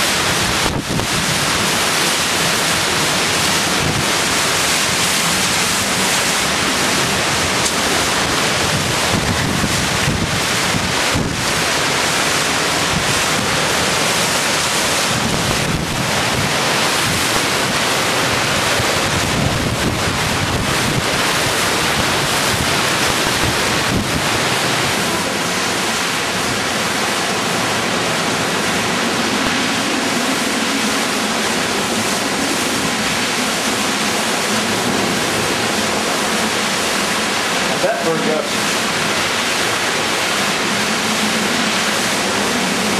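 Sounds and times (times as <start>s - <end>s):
wind buffeting microphone: 0.0s - 37.7s
driving rain: 0.0s - 42.9s
hurricane wind: 0.0s - 42.9s.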